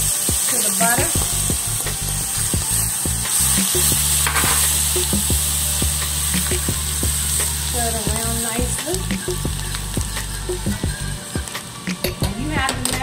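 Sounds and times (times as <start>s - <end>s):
garlic sizzling in butter: 0.0s - 13.0s.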